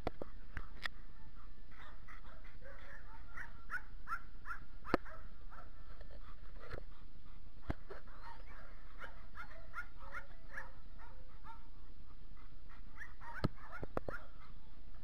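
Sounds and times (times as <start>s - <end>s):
dogs barking and yipping: 0.2s - 15.0s.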